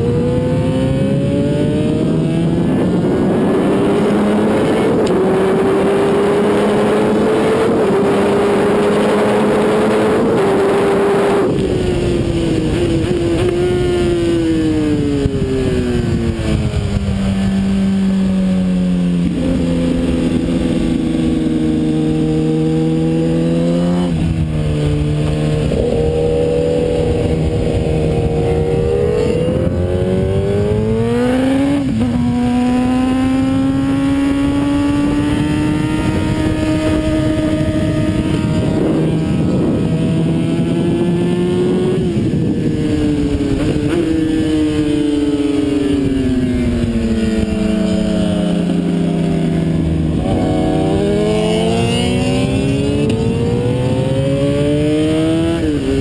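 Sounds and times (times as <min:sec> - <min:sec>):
motorcycle engine revving: 0:00.0 - 0:56.0
wind roar: 0:00.0 - 0:56.0.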